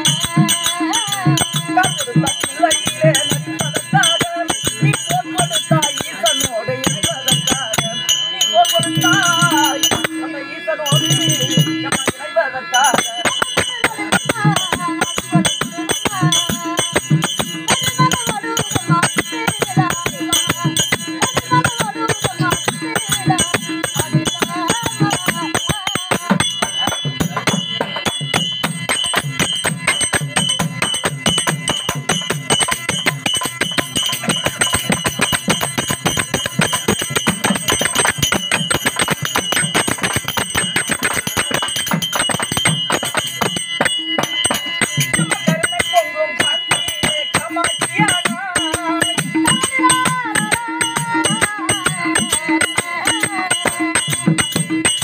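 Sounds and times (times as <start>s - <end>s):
hand cymbals clashing: 0.0s - 55.0s
hand drums: 0.0s - 55.0s
wavering melodic line: 0.0s - 55.0s.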